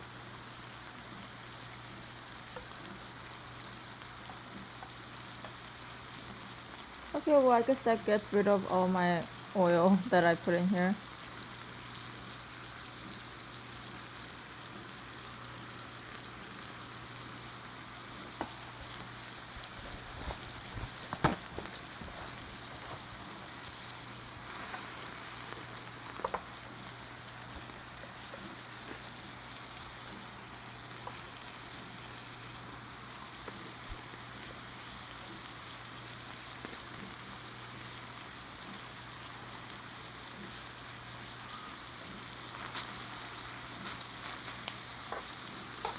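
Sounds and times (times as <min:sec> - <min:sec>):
meat sizzling in a frying pan: 0:00.0 - 0:45.9.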